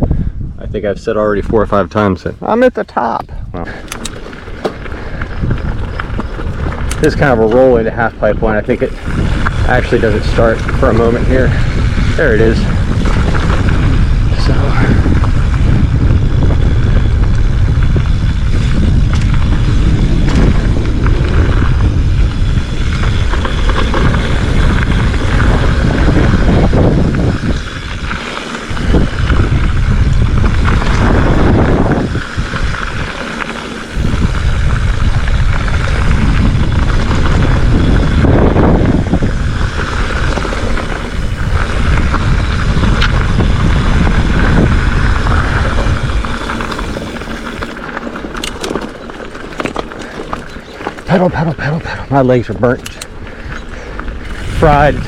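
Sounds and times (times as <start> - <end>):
bike tyre noise: 0.0 - 55.0
wind buffeting microphone: 0.0 - 55.0
bike rattles: 1.2 - 55.0.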